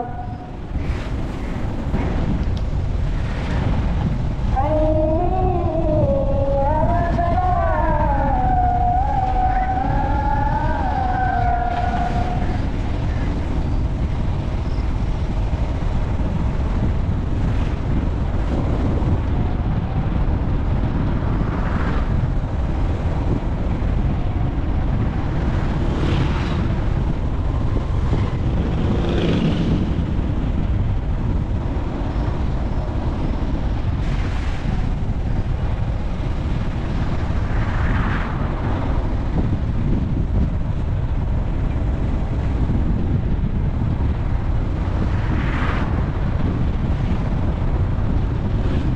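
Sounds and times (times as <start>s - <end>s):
moving vehicle rumble: 0.0s - 48.9s
wind blowing on microphone: 0.0s - 48.9s.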